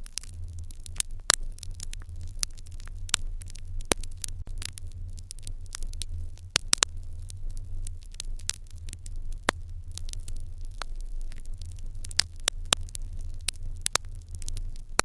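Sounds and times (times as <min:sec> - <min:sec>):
low steady hum: 0:00.0 - 0:15.0
wood fire crackling and popping: 0:00.0 - 0:15.0.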